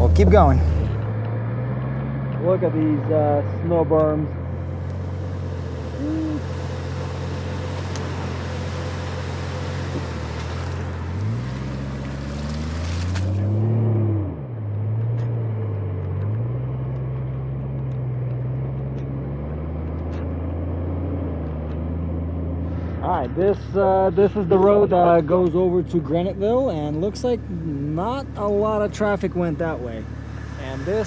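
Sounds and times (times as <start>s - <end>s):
car engine revving: 0.0s - 31.0s
tyre and road noise: 0.0s - 31.0s.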